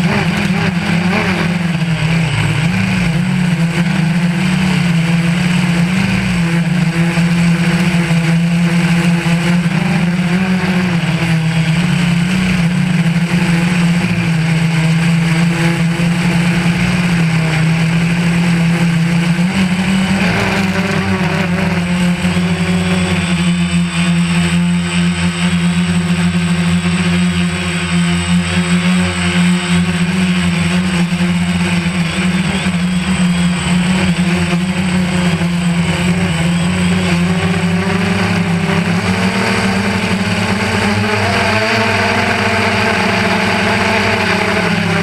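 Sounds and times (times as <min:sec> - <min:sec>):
drone propellers buzzing: 0:00.0 - 0:45.0.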